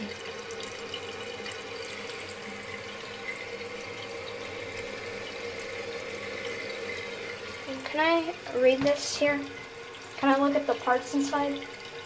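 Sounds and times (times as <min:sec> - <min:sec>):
faint steady hum: 0:00.0 - 0:12.0
running water hiss: 0:00.0 - 0:12.0.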